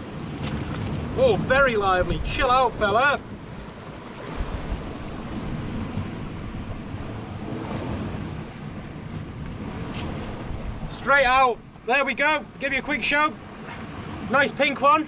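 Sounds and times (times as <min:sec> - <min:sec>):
wind on microphone: 0:00.0 - 0:14.4
sea surf washing in: 0:00.0 - 0:15.0.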